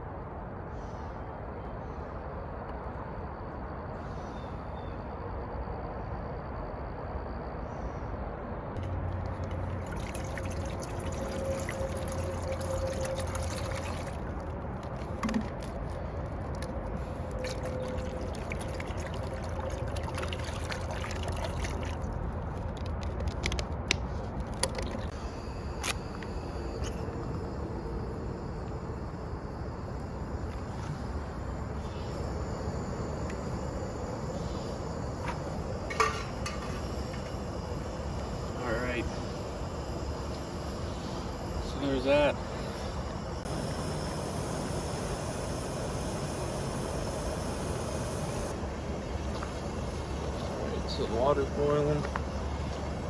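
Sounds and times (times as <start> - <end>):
pot of water heating: 8.8 - 53.0.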